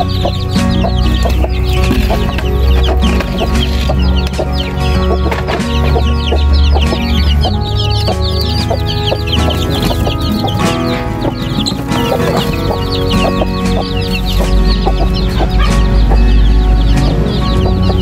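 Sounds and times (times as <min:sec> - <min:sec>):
background music with bass: 0:00.0 - 0:18.0
chicks peeping: 0:00.0 - 0:18.0.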